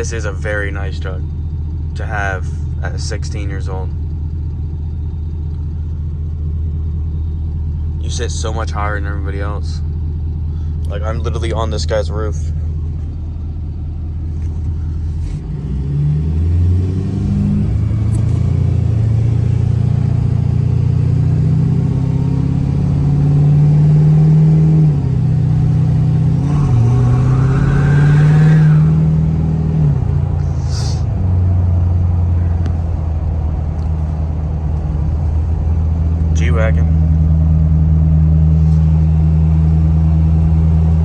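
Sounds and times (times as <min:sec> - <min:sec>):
pickup truck engine accelerating: 0:00.0 - 0:41.0
turbo whine: 0:00.0 - 0:41.0.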